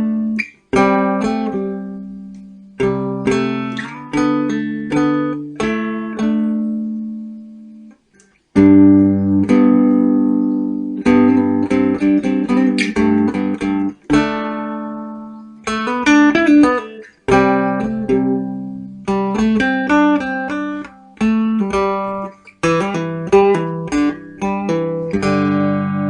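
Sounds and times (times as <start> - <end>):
acoustic guitar picked notes: 0.0 - 26.0.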